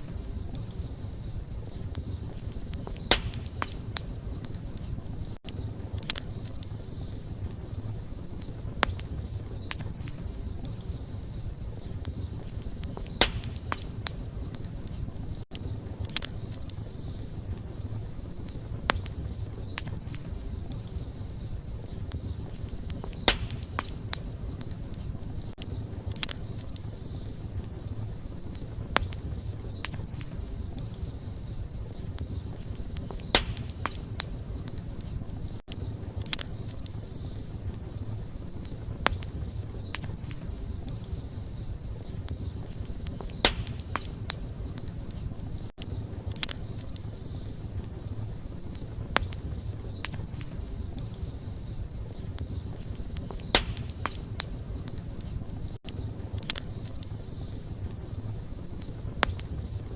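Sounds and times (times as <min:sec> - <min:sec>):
campfire crackling: 0:00.0 - 0:59.9
sharp pops from fire: 0:00.0 - 0:59.9.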